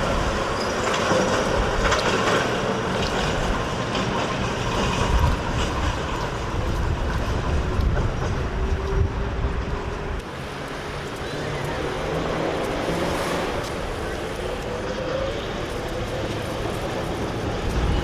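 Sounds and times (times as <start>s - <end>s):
tram rumbling: 0.0s - 18.0s
wheels clicking over rails: 0.0s - 18.0s.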